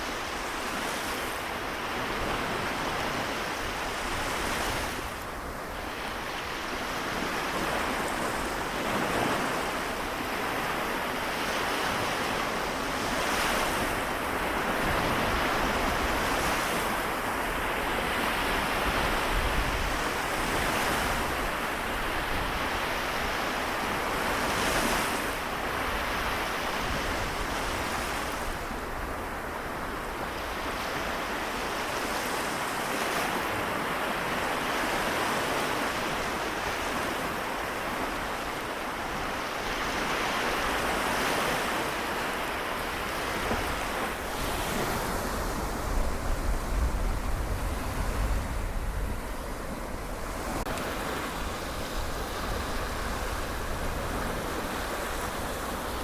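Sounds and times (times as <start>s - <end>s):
waves washing in: 0.0s - 56.0s.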